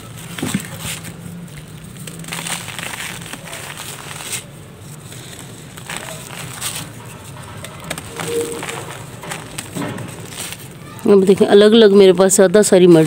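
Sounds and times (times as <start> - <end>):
gritty crushing of dry mud: 0.0 - 12.4
dried mud snapping apart: 0.2 - 11.1.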